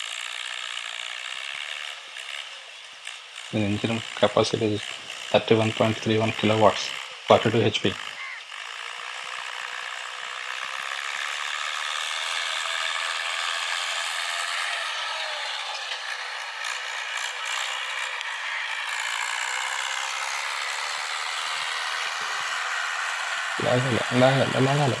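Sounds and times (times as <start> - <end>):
mechanical rattle: 0.0 - 25.0
tractor diesel engine running: 0.0 - 25.0.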